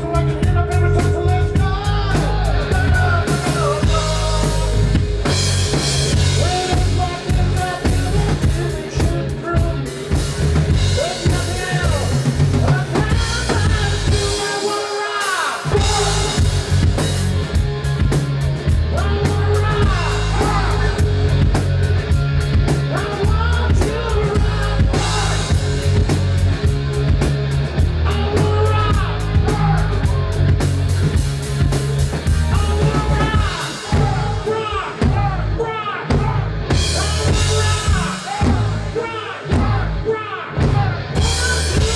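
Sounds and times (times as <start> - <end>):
bass guitar: 0.0 - 41.9
distorted electric guitars: 0.0 - 41.9
drum kit: 0.0 - 41.9.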